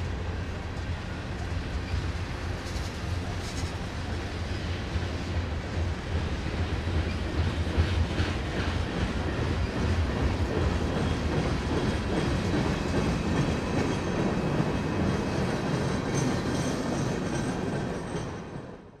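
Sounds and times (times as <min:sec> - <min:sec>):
freight train wheels clattering on rails: 0:00.0 - 0:19.0.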